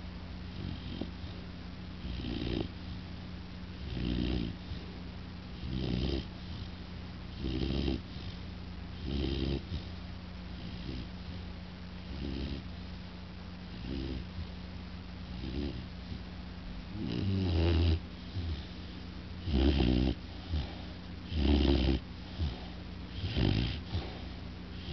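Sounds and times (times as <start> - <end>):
puppy snoring: 0.5 - 1.4, 2.0 - 3.1, 3.7 - 12.9, 13.6 - 14.6, 15.2 - 24.9.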